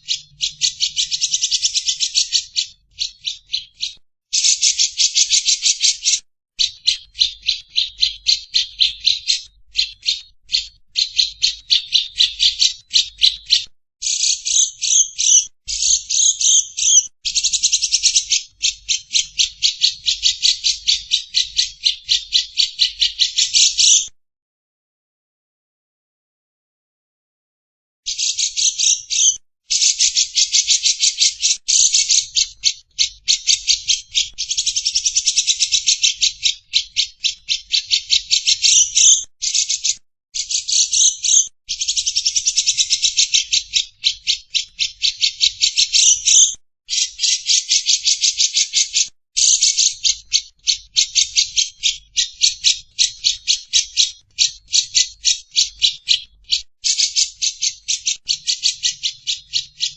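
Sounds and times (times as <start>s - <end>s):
lovebird chattering: 0.0s - 24.1s, 28.1s - 59.9s.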